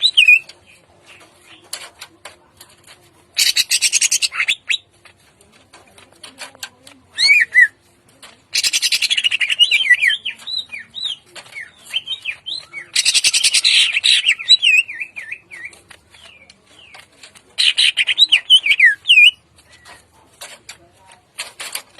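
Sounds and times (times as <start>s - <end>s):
bird rasping rattle: 0.0s - 21.9s.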